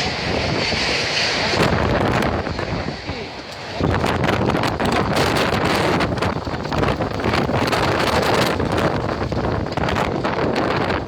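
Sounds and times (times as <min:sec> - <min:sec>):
gusting wind on microphone: 0:00.0 - 0:11.0.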